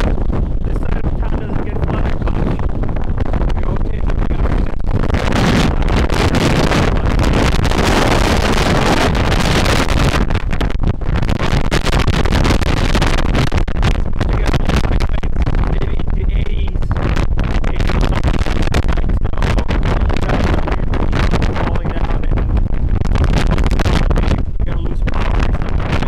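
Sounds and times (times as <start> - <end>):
strong wind gusting on microphone: 0.0 - 26.0.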